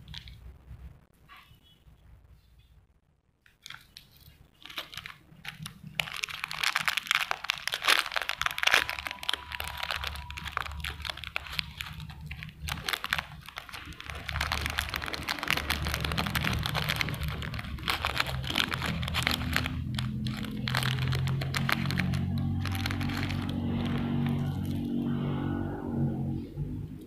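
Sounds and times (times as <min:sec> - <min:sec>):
plastic bag crinkling: 0:00.0 - 0:00.6, 0:03.4 - 0:25.2.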